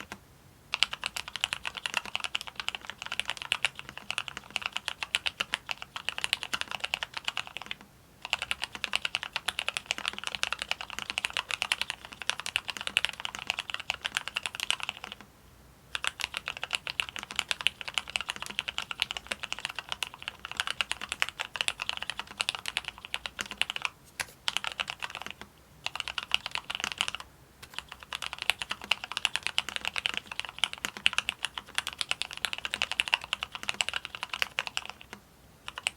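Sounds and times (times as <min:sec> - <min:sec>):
mechanical keyboard typing: 0:00.0 - 0:15.2, 0:15.9 - 0:35.9.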